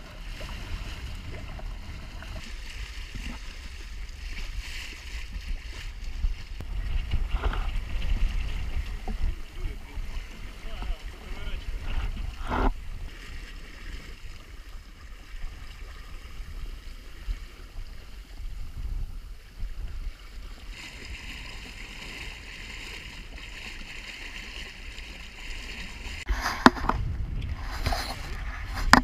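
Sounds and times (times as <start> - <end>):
waves slapping against bow: 0.0 - 18.6, 19.6 - 29.0
wind rumble on microphone: 0.0 - 20.7, 26.0 - 29.0
water rushing along hull: 0.0 - 29.0.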